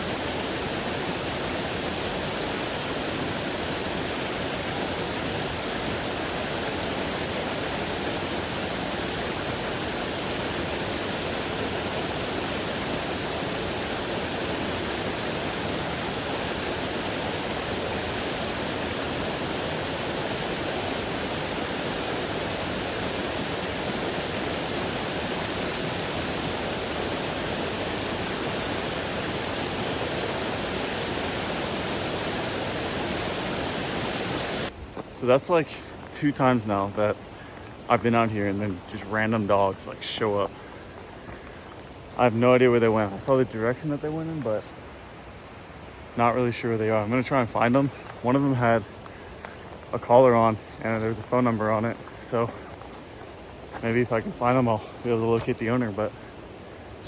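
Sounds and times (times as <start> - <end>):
creek water flowing: 0.0 - 57.0.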